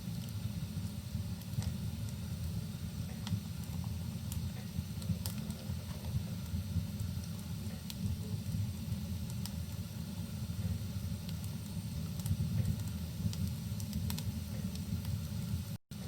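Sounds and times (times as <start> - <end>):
soft rain hiss: 0.0 - 16.0
wood fire crackling and popping: 0.0 - 16.0.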